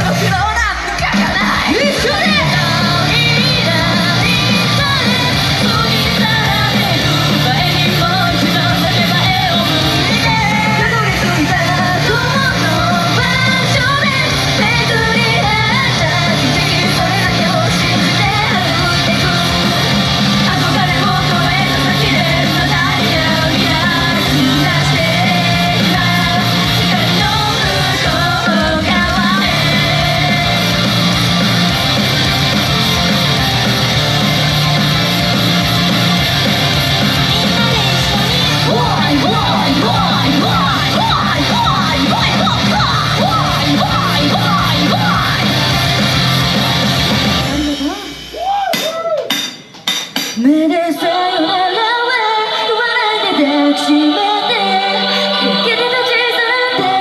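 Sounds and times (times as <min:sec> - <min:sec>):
group singing live: 0:00.0 - 0:47.5, 0:50.4 - 0:57.0
loud pop-rock music: 0:00.0 - 0:57.0.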